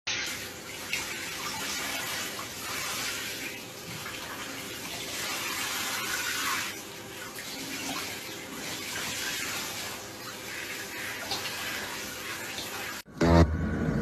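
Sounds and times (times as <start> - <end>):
running water: 0.1 - 13.1.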